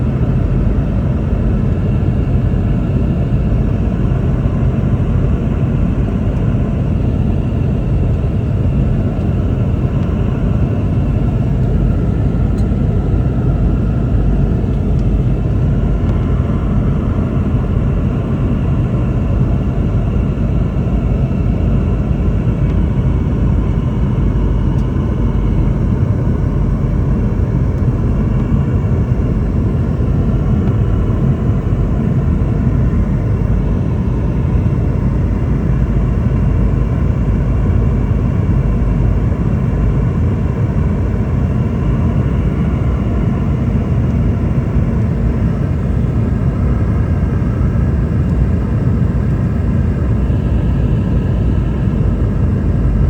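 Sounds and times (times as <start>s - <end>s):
airplane cabin rumble: 0.0s - 53.0s
faint steady whine: 0.0s - 53.0s.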